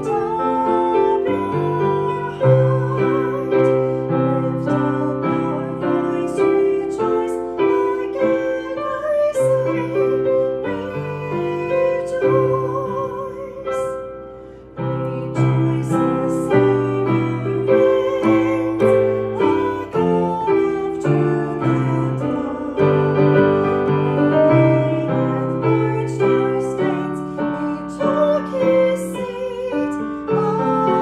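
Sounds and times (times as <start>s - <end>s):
digital piano chords: 0.0s - 31.0s
woman singing a hymn: 0.0s - 31.0s.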